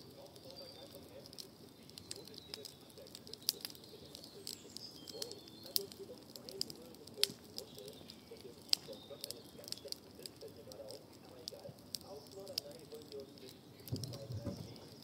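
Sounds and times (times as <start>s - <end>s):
steady low hiss: 0.0s - 15.0s
wood fire crackling and popping: 0.0s - 15.0s.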